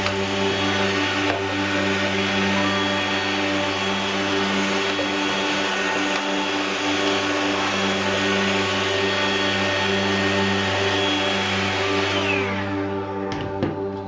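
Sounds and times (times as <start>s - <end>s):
electric motor whirring hum: 0.0s - 13.3s.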